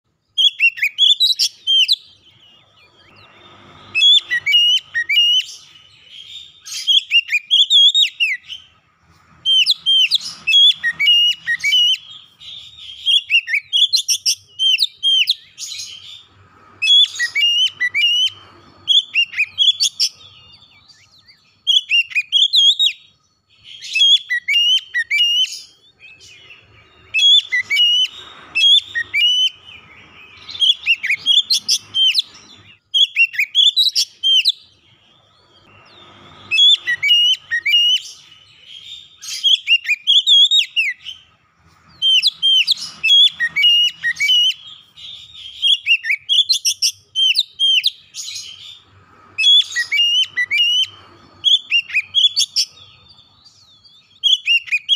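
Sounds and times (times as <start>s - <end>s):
bird singing whistled phrases: 0.2s - 8.7s, 9.4s - 54.9s.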